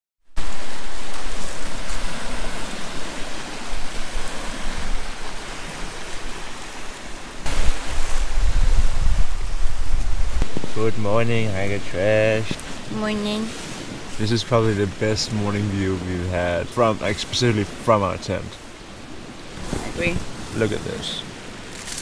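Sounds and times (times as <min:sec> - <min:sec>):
wind buffeting microphone: 0:00.4 - 0:22.0.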